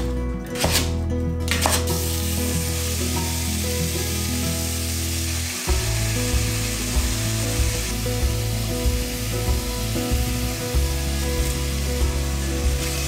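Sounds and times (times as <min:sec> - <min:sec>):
background music: 0:00.0 - 0:13.0
vegetables sizzling in oil: 0:01.9 - 0:13.0.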